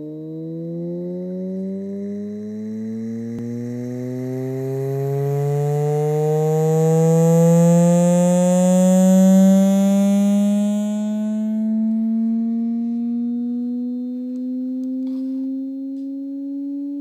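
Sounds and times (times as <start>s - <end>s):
rising buzzy tone from speakers: 0.0s - 17.0s
speaker vibrating: 0.0s - 17.0s.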